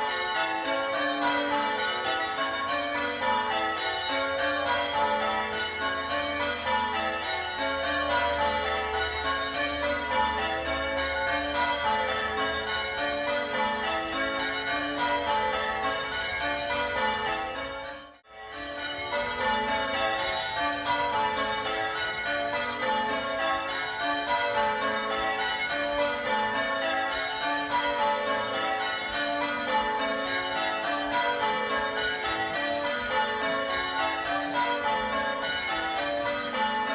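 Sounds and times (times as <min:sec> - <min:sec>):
church bells ringing: 0:00.0 - 0:36.9.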